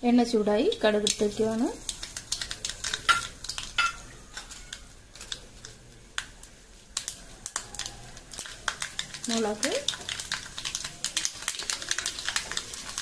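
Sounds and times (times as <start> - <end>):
faint sizzle: 0.0 - 13.0
seeds popping in hot oil: 0.1 - 13.0.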